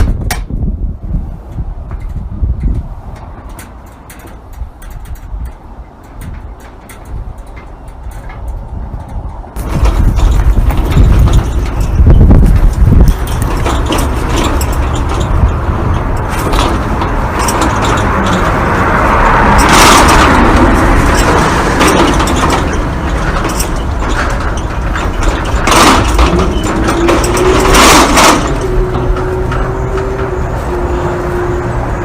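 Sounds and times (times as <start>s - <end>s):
metal gate rattling and clanking: 1.5s - 31.3s
gate hinges squealing: 3.5s - 32.0s.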